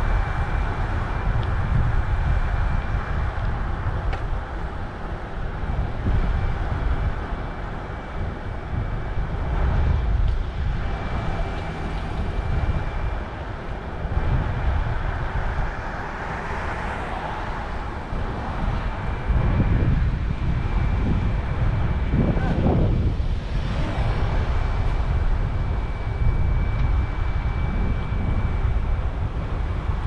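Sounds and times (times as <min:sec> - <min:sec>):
city street traffic: 0:00.0 - 0:30.0
wind rumbling on microphone: 0:00.0 - 0:30.0.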